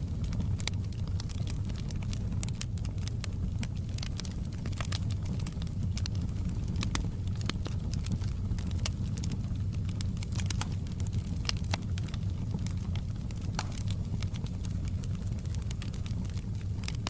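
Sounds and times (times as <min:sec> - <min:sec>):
fire crackling and popping: 0:00.0 - 0:17.0
low rumble of fire: 0:00.0 - 0:17.0.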